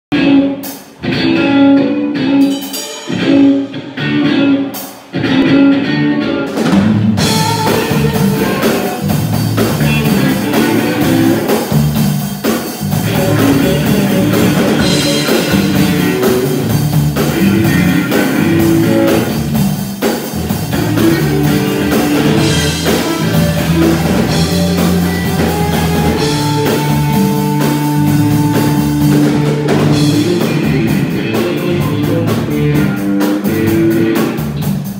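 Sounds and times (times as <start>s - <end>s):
electric guitar notes: 0.1s - 34.7s
rock band playing: 0.1s - 34.9s.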